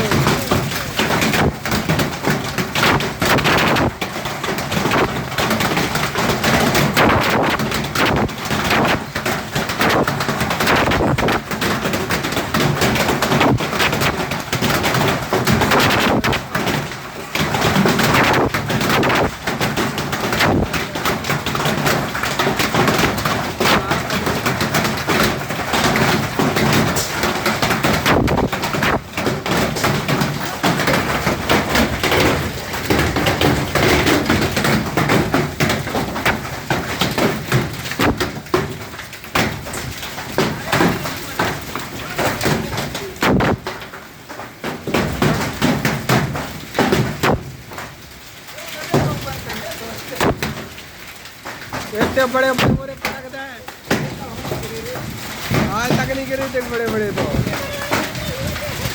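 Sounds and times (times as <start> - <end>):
heavy hail clattering: 0.0 - 58.9.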